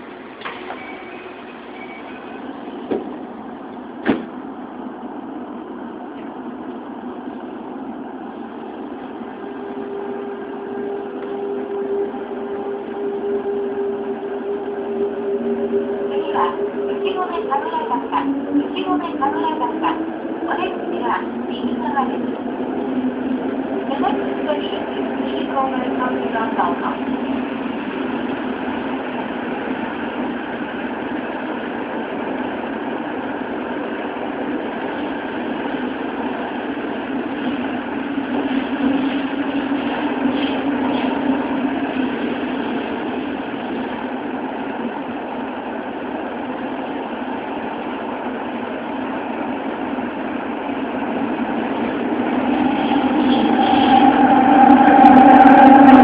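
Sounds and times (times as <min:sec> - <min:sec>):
subway car running rumble: 0:00.0 - 0:56.0
steady hum: 0:02.3 - 0:56.0.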